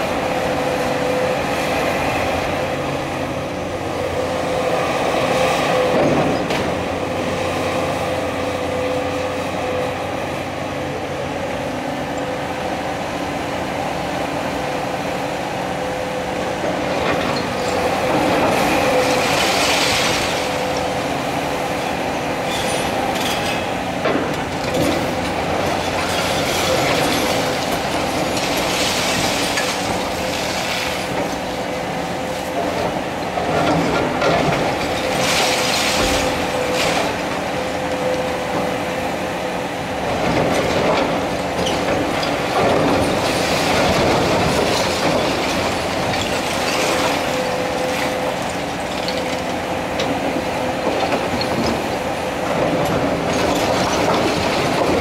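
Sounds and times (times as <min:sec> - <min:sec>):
excavator running with whine: 0:00.0 - 0:55.0.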